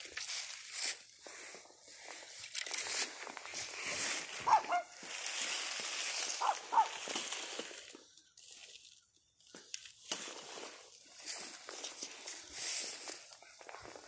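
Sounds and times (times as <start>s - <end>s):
dry leaves crunching under footsteps: 0.0s - 14.0s.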